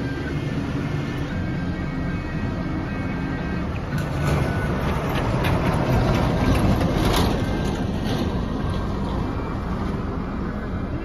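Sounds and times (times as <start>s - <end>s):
truck driving past: 0.0s - 11.0s.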